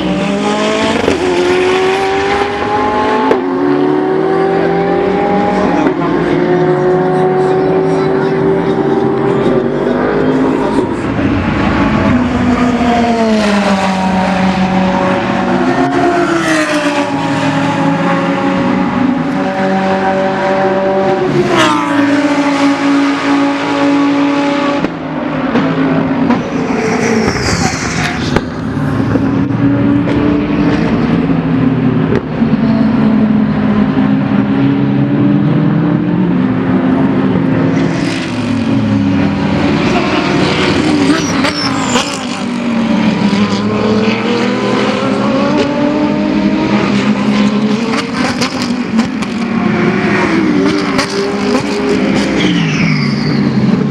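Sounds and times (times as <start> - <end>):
race car engines passing: 0.0 - 53.9.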